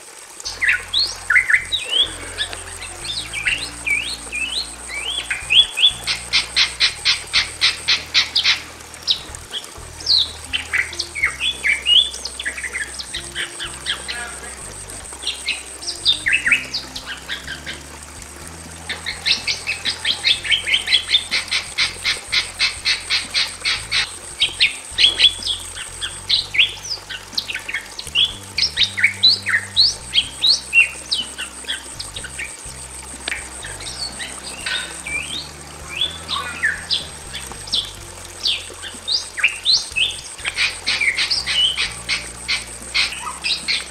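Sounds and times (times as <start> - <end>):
birds calling: 0.0 - 43.9
fast run of repeated bird notes: 0.0 - 43.9.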